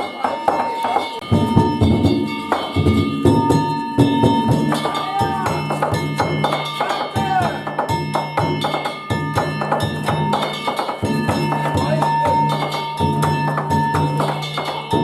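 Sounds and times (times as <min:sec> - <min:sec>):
ringing hand gongs: 0:00.0 - 0:15.0
taiko drum beating: 0:00.0 - 0:15.0.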